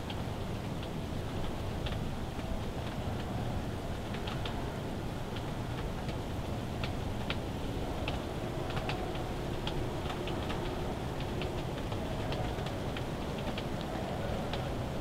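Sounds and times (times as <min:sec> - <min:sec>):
low wind rumble: 0:00.0 - 0:15.0
snow ticking on fabric: 0:00.0 - 0:15.0.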